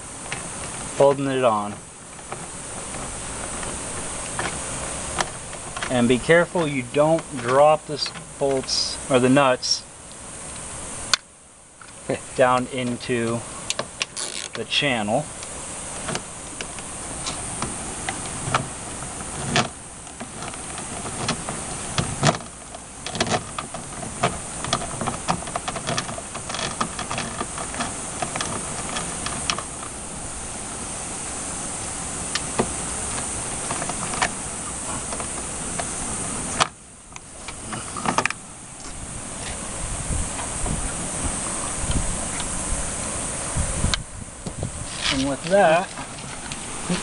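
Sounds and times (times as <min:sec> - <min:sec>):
steady high hiss: 0:00.0 - 0:47.0.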